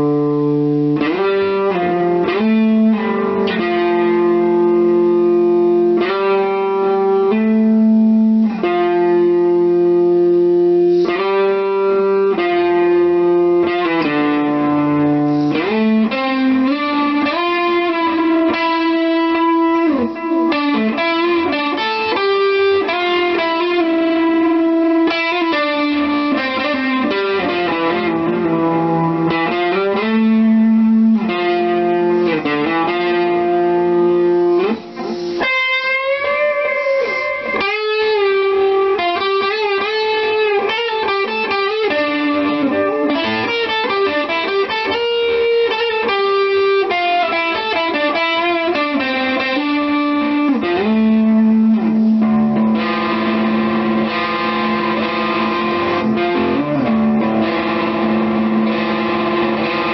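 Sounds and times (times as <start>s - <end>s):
electric guitar lead line: 0.0s - 59.9s.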